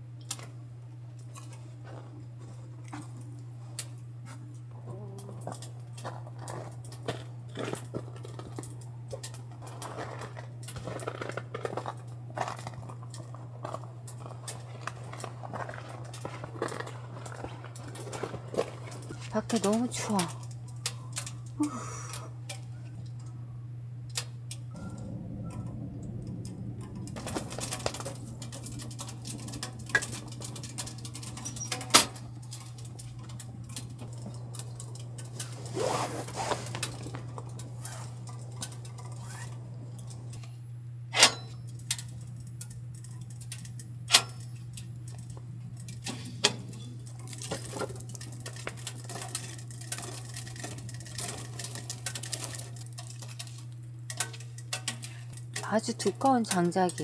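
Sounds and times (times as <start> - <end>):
steady low hum: 0.0 - 57.0
wood fire crackling: 0.0 - 57.0.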